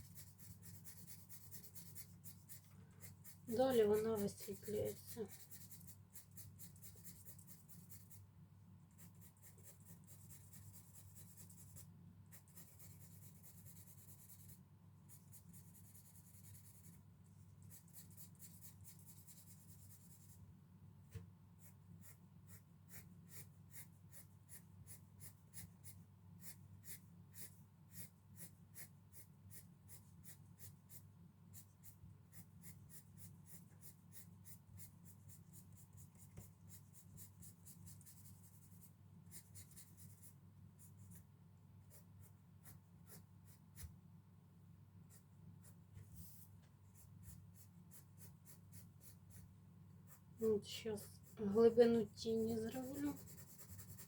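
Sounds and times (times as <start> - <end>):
pencil shading on paper: 0.0 - 20.4, 21.5 - 44.0, 45.0 - 54.0.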